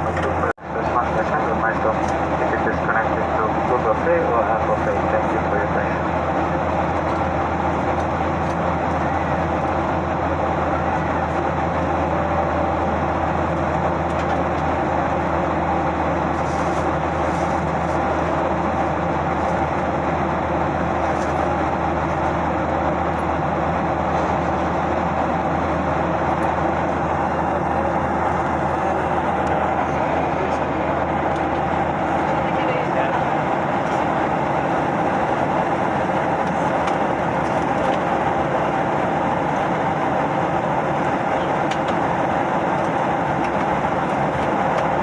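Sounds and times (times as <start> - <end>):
aircraft cabin engine rush: 0.0 - 45.0.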